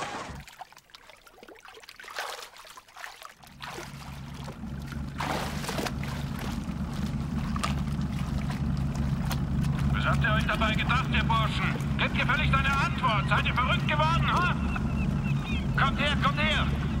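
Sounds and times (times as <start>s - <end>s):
motorboat engine hum: 0.0s - 17.0s
water splashing around swimmers: 0.0s - 17.0s.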